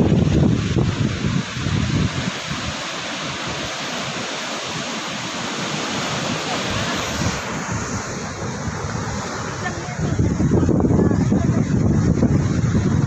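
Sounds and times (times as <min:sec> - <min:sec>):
surf washing onto shore: 0:00.0 - 0:13.0
wind buffeting microphone: 0:00.0 - 0:13.0.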